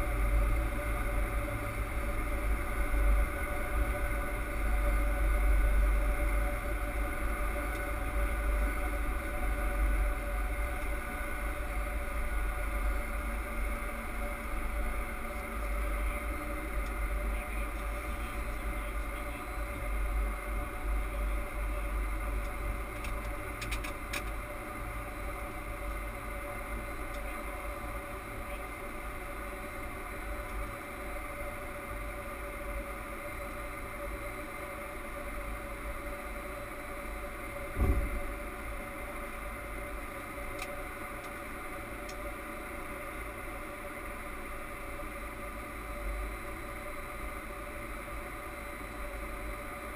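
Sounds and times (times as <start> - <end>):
constant equipment tones: 0.0 - 49.9
low rumble with airflow noise: 0.0 - 49.9.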